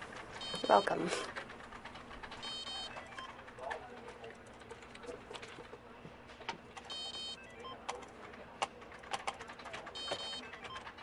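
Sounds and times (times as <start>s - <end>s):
keyboard typing: 0.4s - 5.7s, 6.8s - 11.0s.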